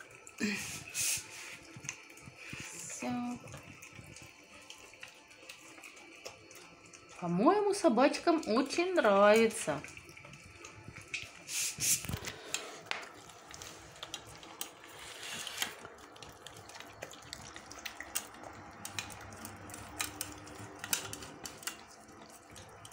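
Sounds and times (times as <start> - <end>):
dogs eating wet food: 0.0 - 22.9.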